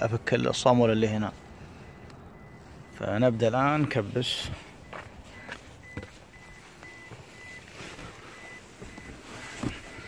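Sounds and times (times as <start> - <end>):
car warning chime beeping: 0.0 - 10.0.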